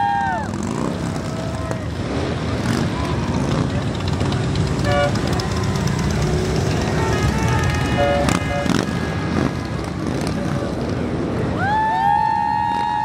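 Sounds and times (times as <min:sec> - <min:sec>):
motorcycles passing: 0:00.0 - 0:13.0.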